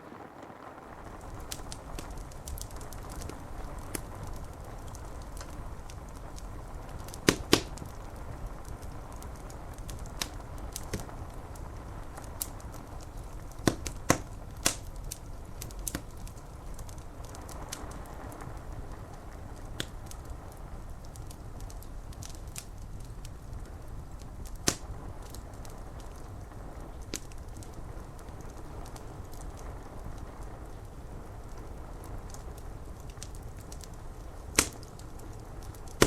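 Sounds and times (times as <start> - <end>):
rain on window glass: 0.0 - 36.0
wood fire crackling and popping: 0.0 - 36.0.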